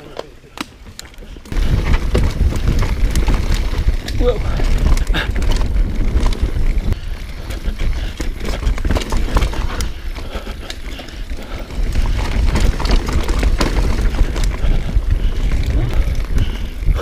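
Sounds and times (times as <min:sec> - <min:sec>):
bike tyres rumbling over dirt: 0:00.0 - 0:17.0
chain and frame rattling: 0:01.0 - 0:17.0
wind buffeting microphone: 0:01.2 - 0:17.0.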